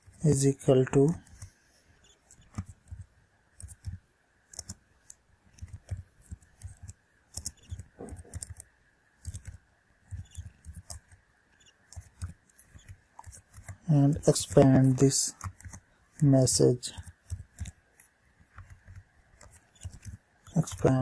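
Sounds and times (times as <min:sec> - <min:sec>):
faint steady background tone: 0:00.0 - 0:21.0.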